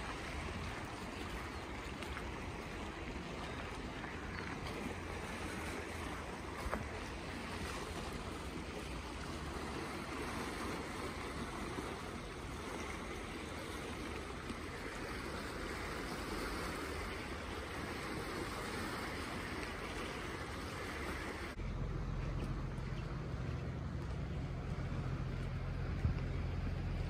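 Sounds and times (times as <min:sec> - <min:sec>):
sea water washing: 0:00.0 - 0:27.0
wind: 0:00.0 - 0:27.0.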